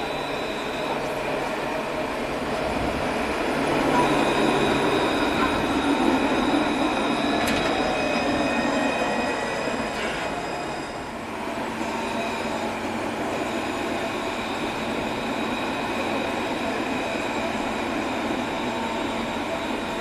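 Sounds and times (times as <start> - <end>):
tram running on rails: 0.0 - 20.0.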